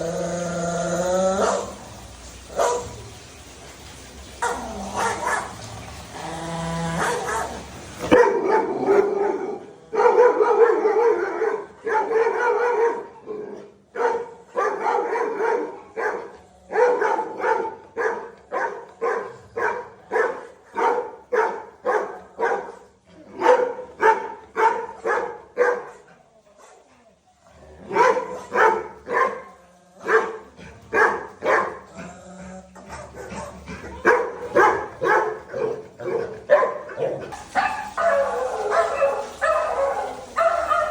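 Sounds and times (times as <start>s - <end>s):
dog barking: 2.5s - 3.0s, 4.4s - 5.7s, 7.0s - 26.1s, 27.9s - 31.9s, 32.9s - 40.9s.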